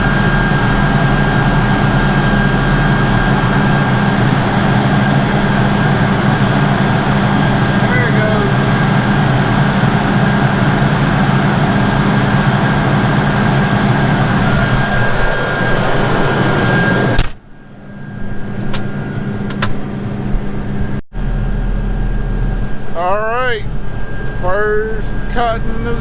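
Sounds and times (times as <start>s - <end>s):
loud machine drone with whine: 0.0s - 26.0s.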